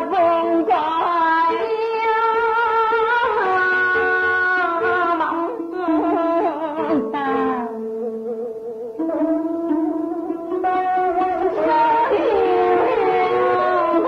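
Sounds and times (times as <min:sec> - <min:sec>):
plucked string accompaniment: 0:00.0 - 0:14.0.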